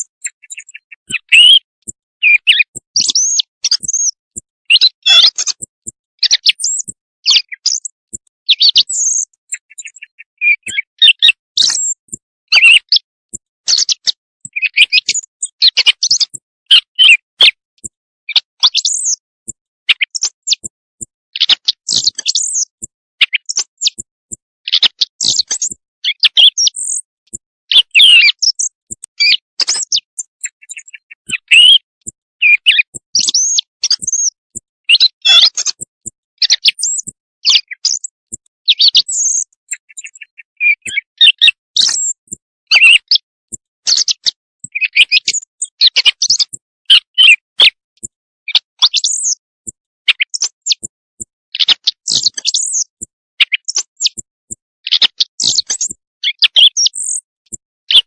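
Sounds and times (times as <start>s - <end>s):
high bird chirps and pips: 0.0s - 58.0s.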